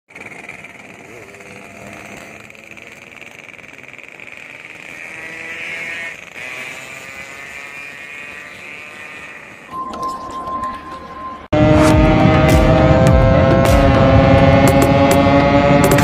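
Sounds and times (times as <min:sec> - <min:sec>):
two-stroke motorcycle revving: 0:00.1 - 0:09.8, 0:11.6 - 0:16.0.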